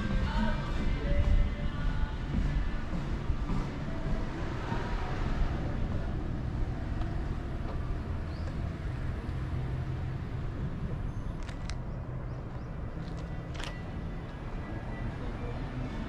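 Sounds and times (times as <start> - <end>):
low outdoor rumble: 0.0 - 15.4.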